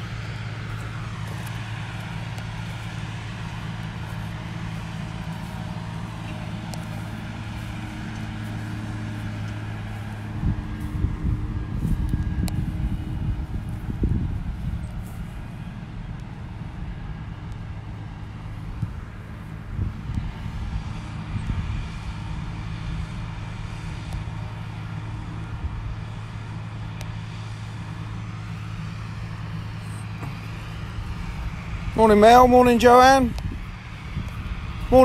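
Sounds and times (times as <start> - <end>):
wind rumbling on microphone: 0.0 - 26.7, 27.6 - 35.0
distant tractor engine: 0.0 - 35.0.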